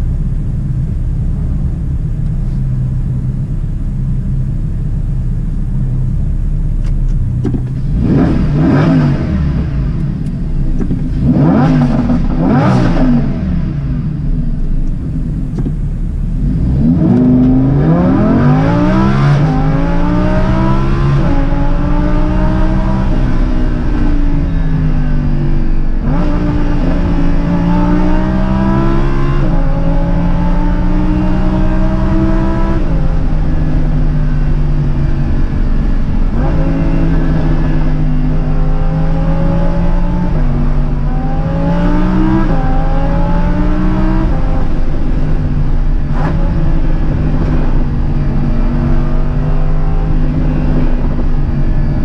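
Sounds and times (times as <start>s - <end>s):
sports car engine revving: 0.0s - 52.0s
car accelerating hard: 7.4s - 52.0s.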